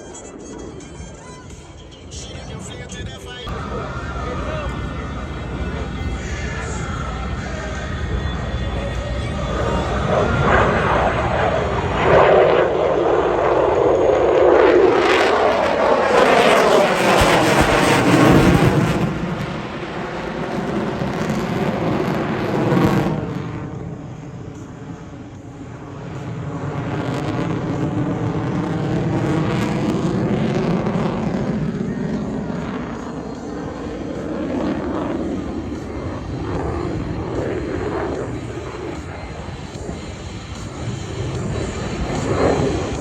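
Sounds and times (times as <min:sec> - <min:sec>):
fighter jet roaring past: 0:02.8 - 0:43.0.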